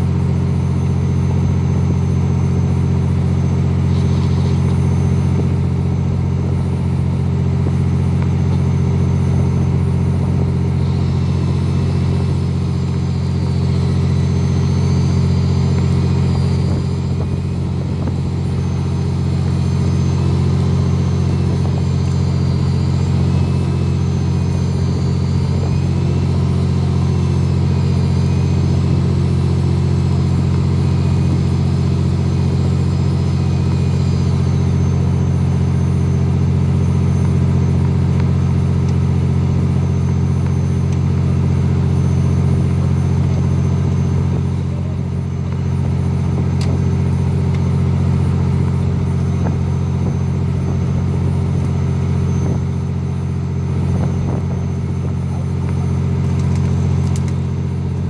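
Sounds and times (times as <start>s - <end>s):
boat engine drone: 0.0s - 58.0s
faint wavering whine: 0.0s - 58.0s.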